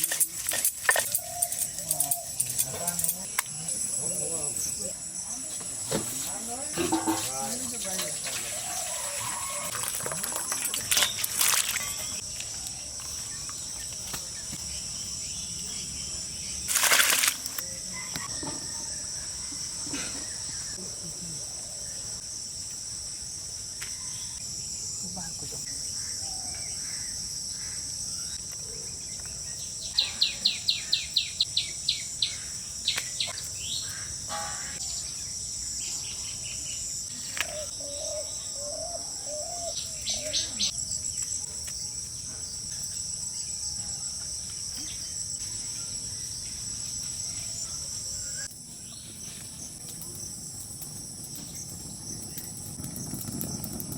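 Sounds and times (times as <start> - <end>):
insect chorus: 0.0 - 53.9.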